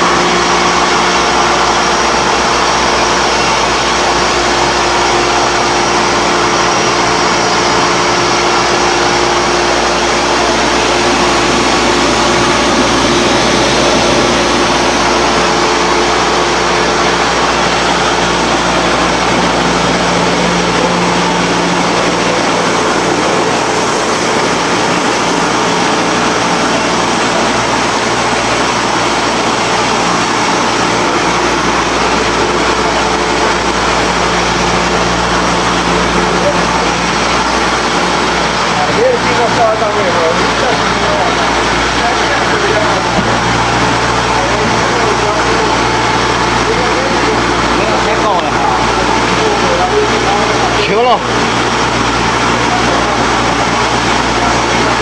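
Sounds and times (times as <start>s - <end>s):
loud mechanical din: 0.0s - 55.0s.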